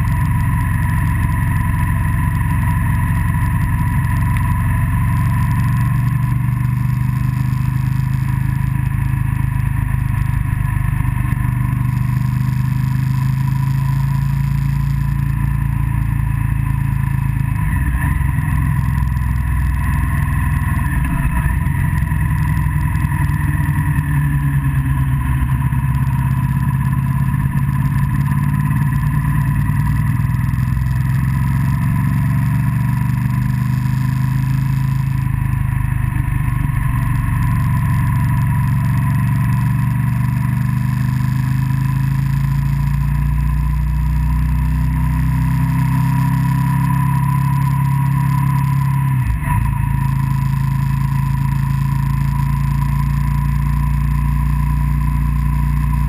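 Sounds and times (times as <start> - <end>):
road and wind noise: 0.0 - 56.0
vehicle engine running: 0.0 - 56.0.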